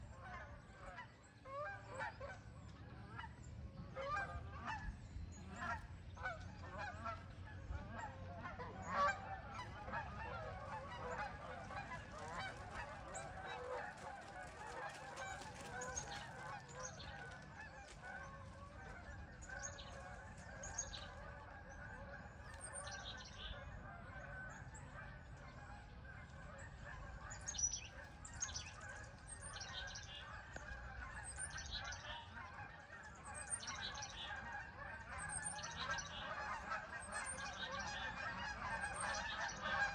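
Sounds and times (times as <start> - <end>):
geese honking: 3.1 - 39.9.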